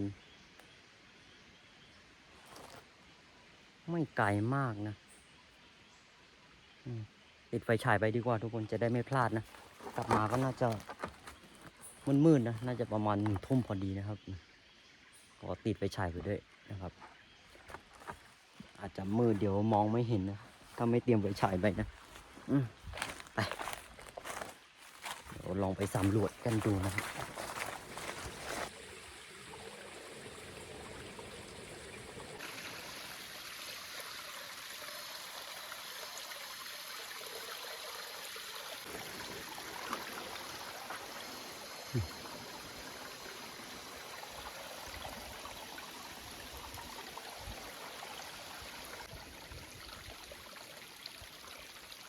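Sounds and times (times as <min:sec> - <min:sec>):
rushing forest ambience: 0:00.0 - 0:52.0.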